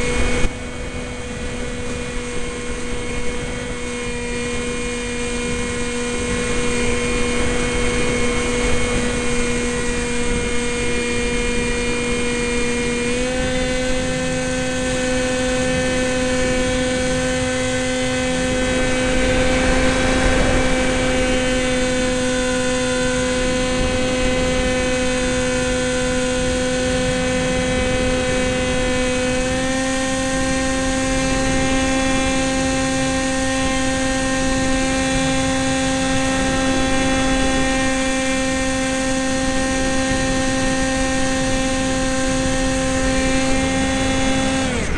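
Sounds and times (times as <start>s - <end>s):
model plane motor whining: 0.0s - 44.9s
wind noise: 0.0s - 44.9s.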